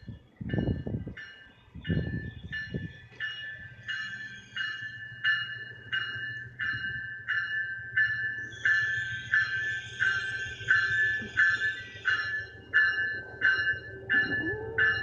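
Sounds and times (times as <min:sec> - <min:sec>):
railroad warning bell ringing: 0:00.0 - 0:15.0
train rumble: 0:00.0 - 0:15.0.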